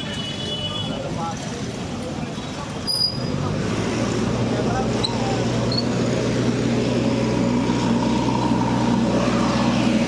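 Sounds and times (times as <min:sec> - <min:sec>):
vehicle engine drone: 0:01.3 - 0:10.0.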